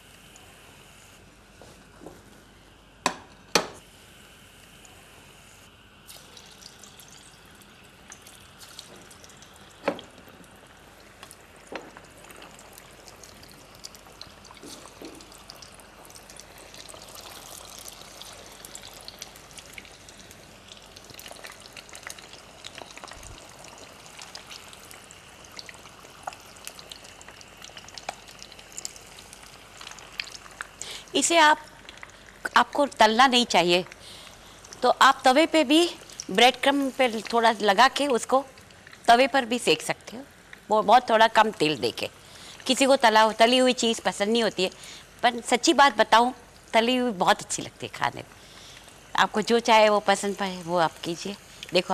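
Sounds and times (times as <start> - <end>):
food sizzling in hot oil: 3.8 - 51.9.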